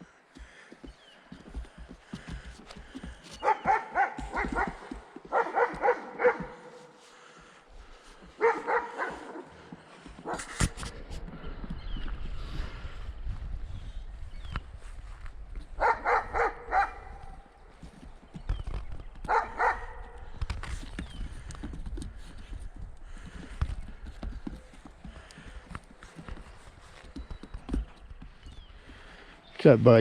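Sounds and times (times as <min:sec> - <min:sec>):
hooves knocking and shuffling: 0:00.0 - 0:30.0.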